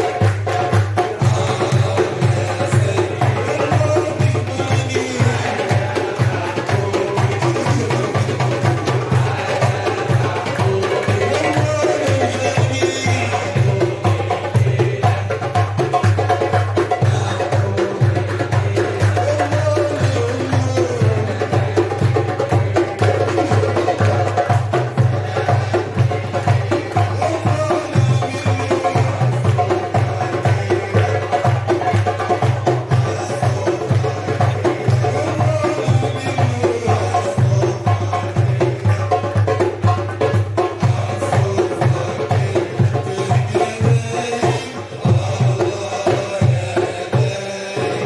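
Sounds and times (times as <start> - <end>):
steady drum beat: 0.0 - 48.0.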